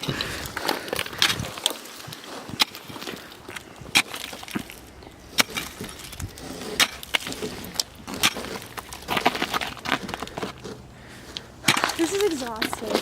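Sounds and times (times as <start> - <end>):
ice cracking and knocking: 0.0 - 13.0.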